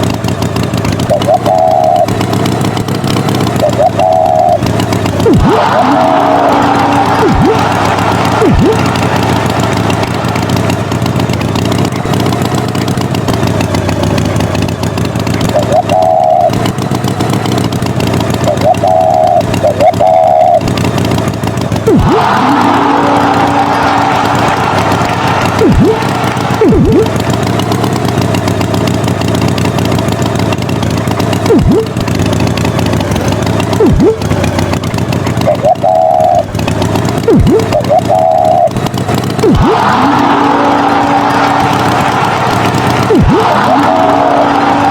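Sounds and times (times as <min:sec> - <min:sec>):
tractor engine running: 0:00.0 - 0:44.9
swooping pitch drop: 0:01.0 - 0:12.9, 0:15.3 - 0:20.9, 0:21.8 - 0:28.0, 0:31.4 - 0:32.1, 0:33.1 - 0:44.9.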